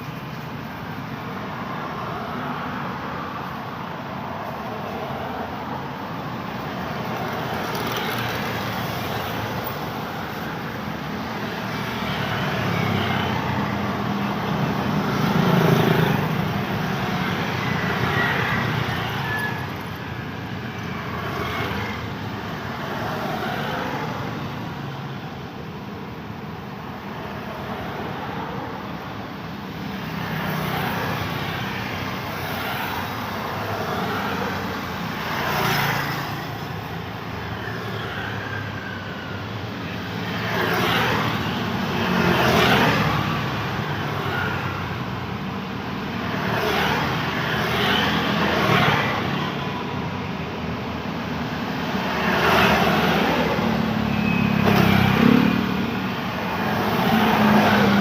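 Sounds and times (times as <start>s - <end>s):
cars and motorbikes passing: 0.0s - 58.0s
traffic background roar: 0.0s - 58.0s.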